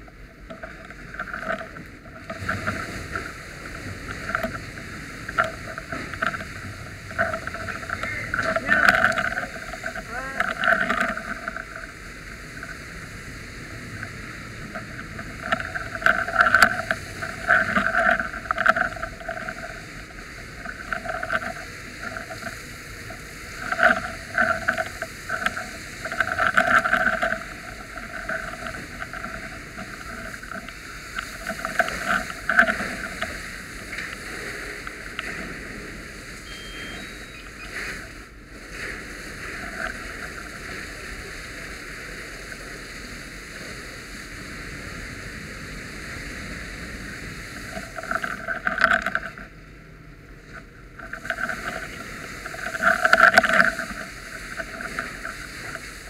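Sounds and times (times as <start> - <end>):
fire hose spraying water: 2.1 - 48.4.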